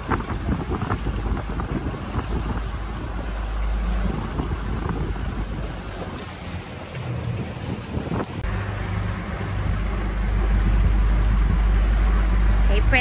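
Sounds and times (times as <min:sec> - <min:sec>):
motorboat engine hum: 0:00.0 - 0:13.0
water rushing past hull: 0:00.0 - 0:13.0
wind buffeting microphone: 0:00.0 - 0:13.0.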